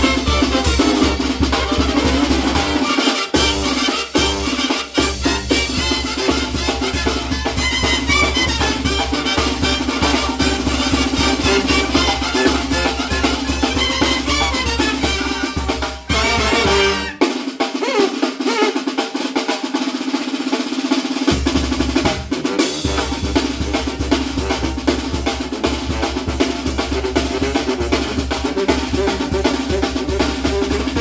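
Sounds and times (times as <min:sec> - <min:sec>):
brass band playing: 0:00.0 - 0:19.5, 0:21.2 - 0:31.0
snare drum: 0:00.0 - 0:31.0.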